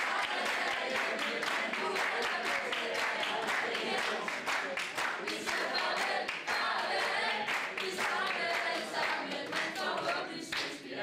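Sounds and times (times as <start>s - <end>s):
hand-clapping: 0.0s - 10.8s
young voices singing in chorus: 0.0s - 11.0s.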